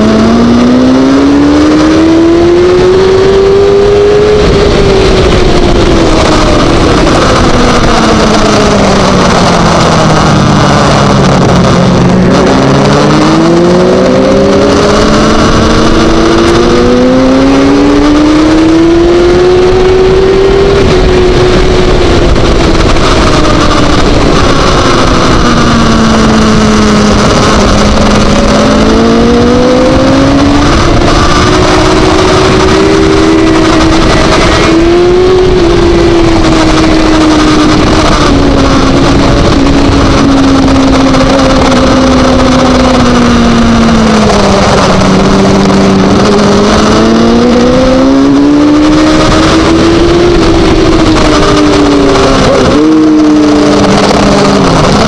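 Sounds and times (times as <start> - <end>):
motorcycle engine revving: 0.0 - 55.0
wind noise on microphone: 0.0 - 55.0.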